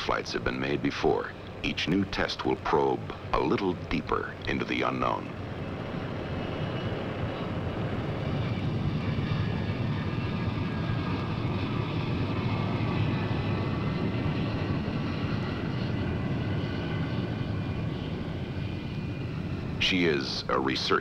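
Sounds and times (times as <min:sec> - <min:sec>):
aircraft engine rumble: 0:00.0 - 0:21.0.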